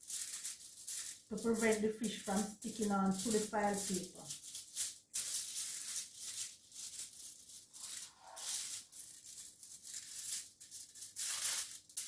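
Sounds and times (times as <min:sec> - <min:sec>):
aluminium foil crinkling under hand: 0:00.0 - 0:12.0.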